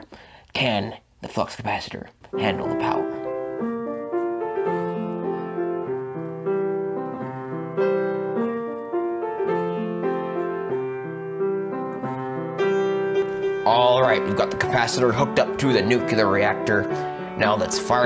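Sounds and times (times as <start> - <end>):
upright piano chords: 2.3 - 18.0.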